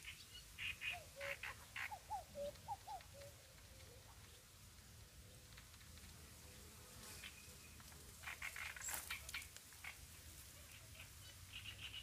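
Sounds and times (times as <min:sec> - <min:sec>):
small birds chirping: 0:00.0 - 0:05.9, 0:06.5 - 0:12.0.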